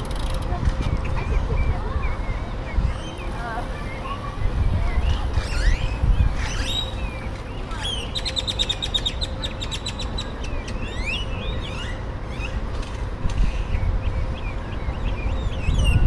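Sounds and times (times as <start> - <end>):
birds chirping: 0.8 - 16.0.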